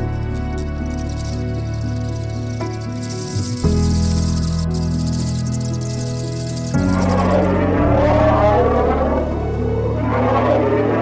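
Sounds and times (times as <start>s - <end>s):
background music with low notes: 0.0s - 11.0s.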